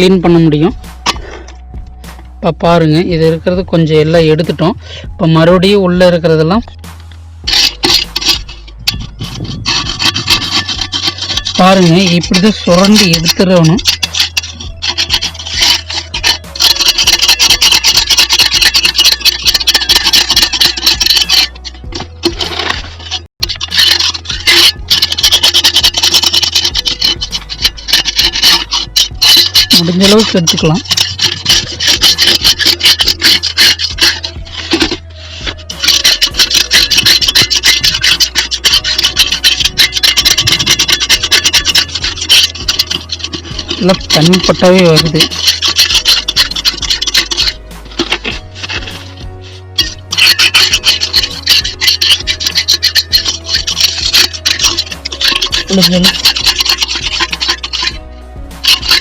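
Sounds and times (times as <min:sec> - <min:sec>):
rasping scraping of scale in a tank: 0:00.0 - 0:59.0.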